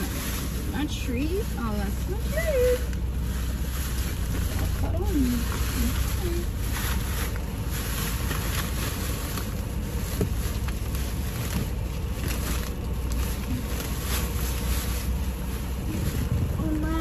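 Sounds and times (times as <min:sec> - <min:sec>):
plastic bags rustling and crinkling: 0:00.0 - 0:17.0
steady low rumble: 0:00.0 - 0:17.0.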